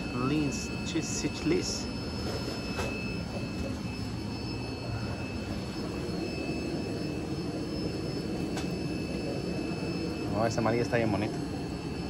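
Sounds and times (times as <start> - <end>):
aquarium pumps humming: 0.0 - 12.0
faint high-pitched whines: 0.0 - 12.0.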